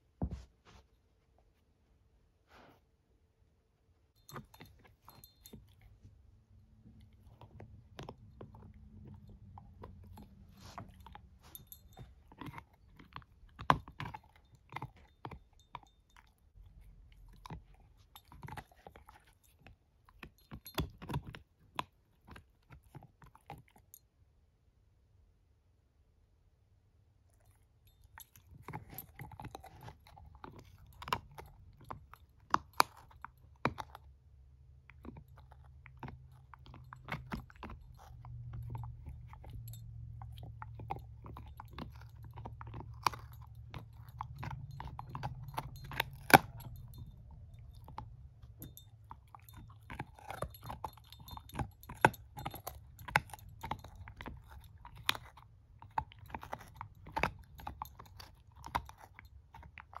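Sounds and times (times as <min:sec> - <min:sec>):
puppy gnawing a chew stick: 0:04.1 - 0:24.0, 0:27.3 - 1:00.0.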